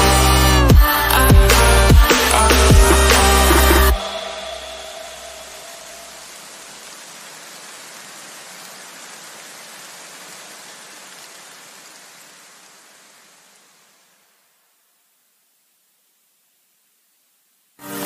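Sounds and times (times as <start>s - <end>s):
steady rain-like hiss: 3.4s - 18.0s.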